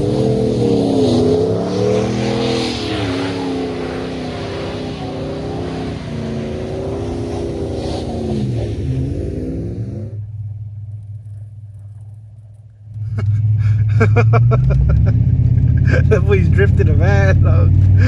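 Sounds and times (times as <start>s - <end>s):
low engine drone with rattles: 0.0s - 18.0s
truck engine revving: 0.0s - 18.0s.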